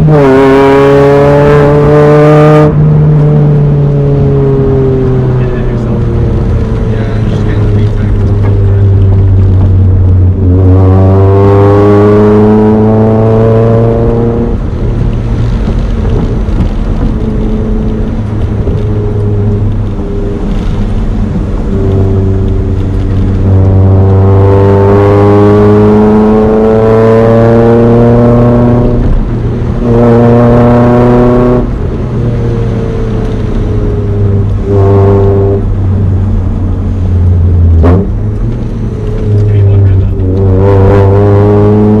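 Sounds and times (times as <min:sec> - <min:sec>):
car engine revving through gears: 0:00.0 - 0:42.0.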